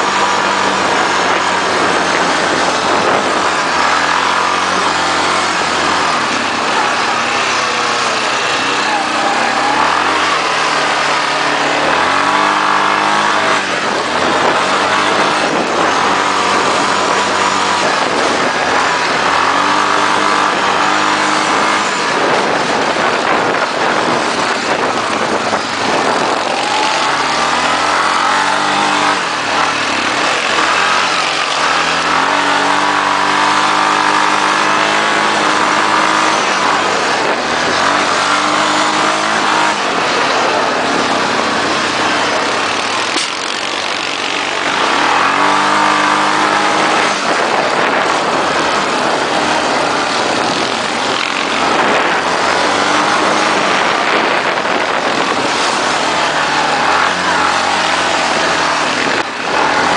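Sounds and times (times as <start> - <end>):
constant rushing noise: 0.0 - 59.9
off-road vehicle engine revving: 0.0 - 59.9.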